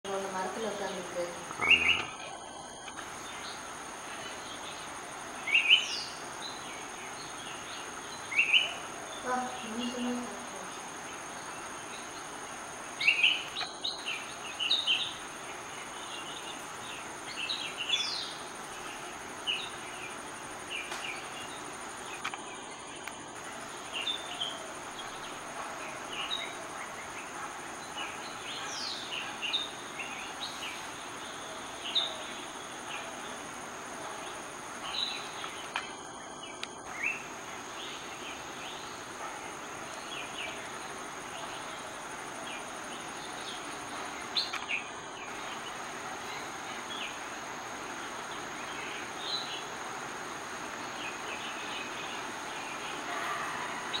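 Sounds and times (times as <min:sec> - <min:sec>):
birds chirping: 0:00.0 - 0:54.0
high-pitched insect drone: 0:00.1 - 0:54.0.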